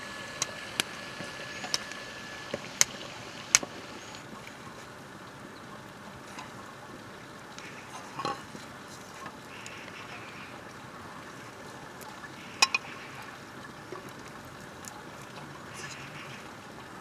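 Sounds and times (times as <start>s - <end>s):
wood fire hissing and crackling: 0.0s - 17.0s.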